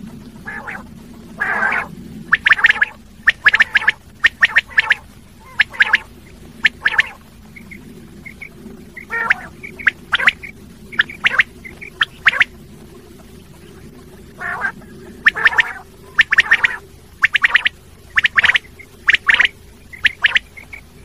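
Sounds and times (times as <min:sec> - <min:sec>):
quail calling: 0:00.4 - 0:12.6, 0:14.3 - 0:21.0.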